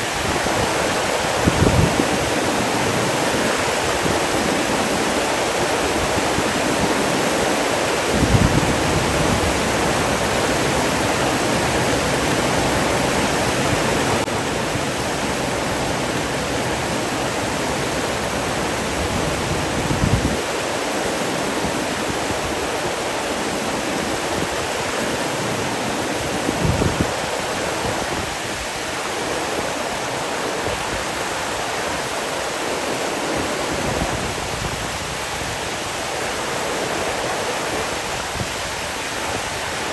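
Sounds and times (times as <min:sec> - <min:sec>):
rushing flowing water: 0:00.0 - 0:39.9.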